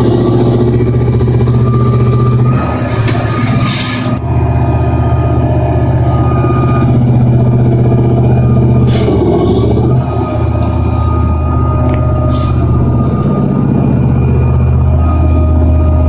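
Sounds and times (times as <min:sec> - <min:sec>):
heavy machine engine humming: 0:00.0 - 0:16.0.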